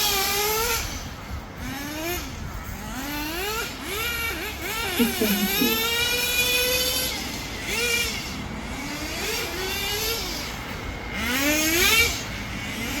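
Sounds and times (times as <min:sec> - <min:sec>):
rc car engine high-pitched whine: 0:00.0 - 0:13.0.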